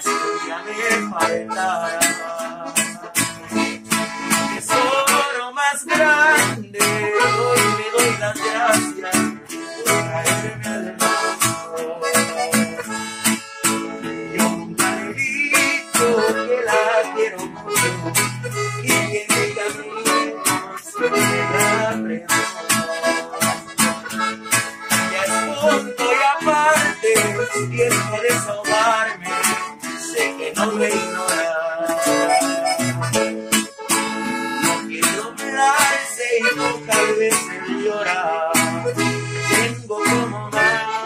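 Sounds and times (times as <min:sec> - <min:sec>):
instrumental music with beat: 0:00.0 - 0:41.0.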